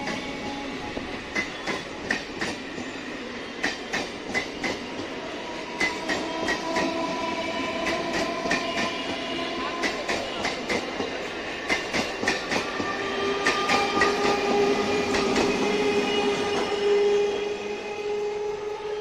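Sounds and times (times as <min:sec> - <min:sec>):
train wheels clicking on rail joints: 0:00.0 - 0:17.1
train rumble: 0:00.0 - 0:19.0.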